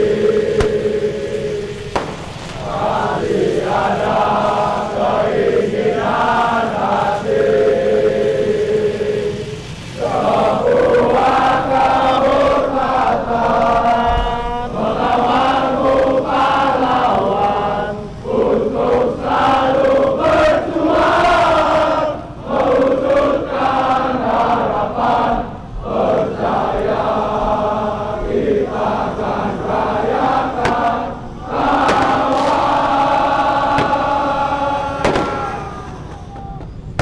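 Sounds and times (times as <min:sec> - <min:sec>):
crowd singing a chant: 0:00.0 - 0:37.0.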